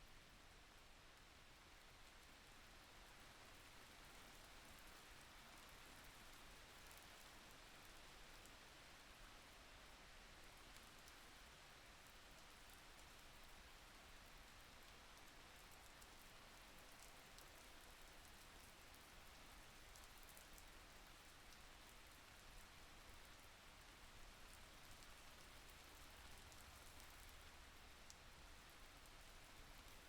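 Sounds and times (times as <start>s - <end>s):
faint rainfall hiss: 0.0s - 30.0s.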